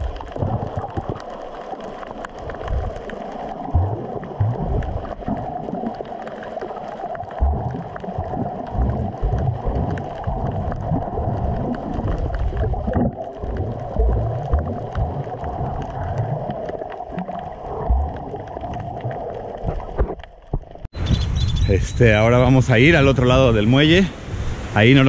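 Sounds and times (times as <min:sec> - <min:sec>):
muffled underwater sloshing: 0:00.0 - 0:20.9.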